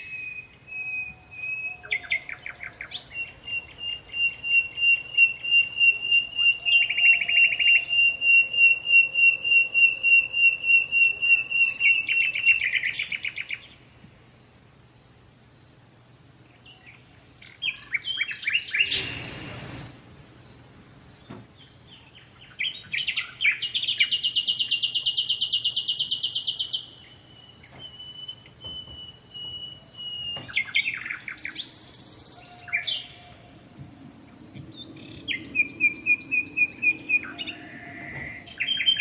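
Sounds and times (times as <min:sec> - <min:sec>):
songbird trilling: 0:00.0 - 0:13.8, 0:16.6 - 0:19.4, 0:21.6 - 0:33.6, 0:34.3 - 0:39.0.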